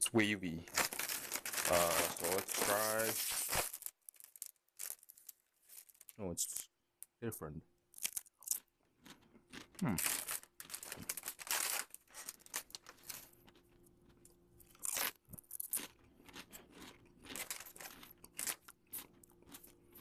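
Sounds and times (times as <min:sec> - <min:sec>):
person crunching potato chips: 0:00.6 - 0:06.6, 0:07.9 - 0:20.0.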